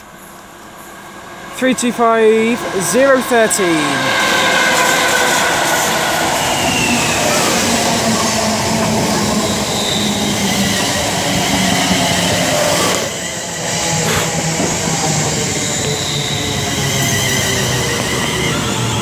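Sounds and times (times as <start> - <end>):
train wheel and motor noise: 0.0 - 19.0.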